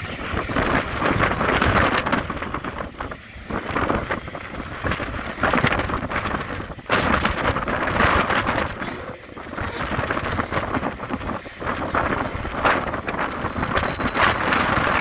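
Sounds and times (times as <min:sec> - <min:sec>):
freight train wheels on rails: 0:00.0 - 0:15.0
wind buffeting microphone: 0:00.0 - 0:15.0.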